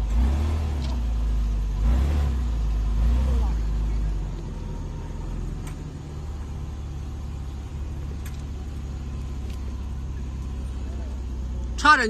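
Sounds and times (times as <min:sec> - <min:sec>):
engine droning under load: 0:00.0 - 0:12.0.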